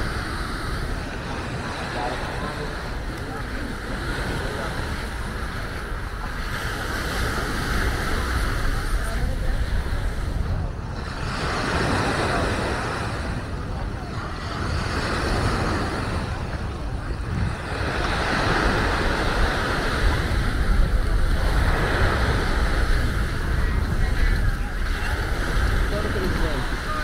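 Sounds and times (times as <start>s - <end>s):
people's voices: 0.0s - 27.0s
waves washing onto sand: 0.0s - 27.0s
wind rumbling on microphone: 0.0s - 27.0s.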